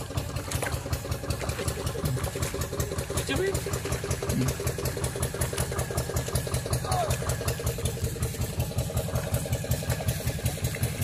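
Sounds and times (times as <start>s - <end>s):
small motor engine running: 0.0s - 11.0s.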